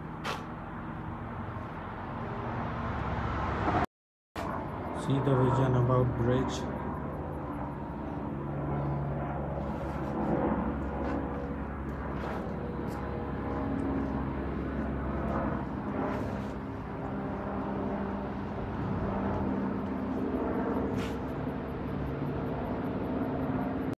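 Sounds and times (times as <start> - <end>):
highway traffic rumble: 0.0 - 24.0.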